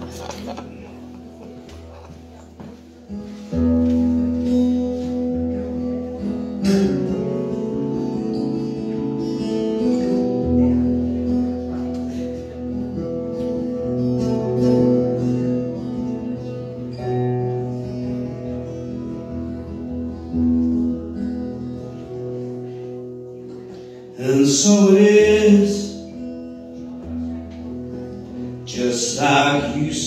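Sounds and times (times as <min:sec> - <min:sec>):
acoustic guitar chords: 0:00.0 - 0:30.0.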